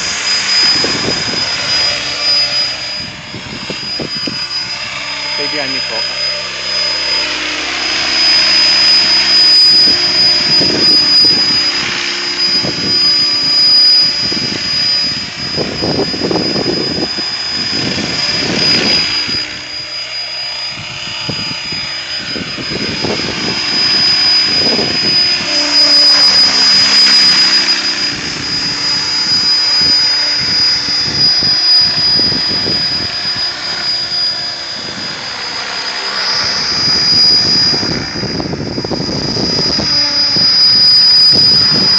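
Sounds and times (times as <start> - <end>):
rc helicopter motor whine: 0.0 - 41.9
rotor blades swishing: 0.0 - 41.9.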